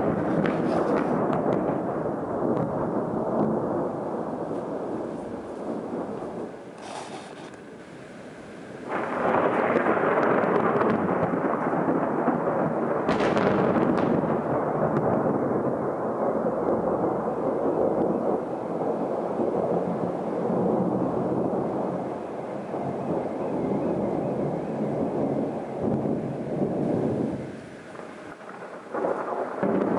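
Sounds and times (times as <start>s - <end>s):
sharp thunder crackle: 0.0s - 29.9s
thunder rumbling: 0.0s - 29.9s.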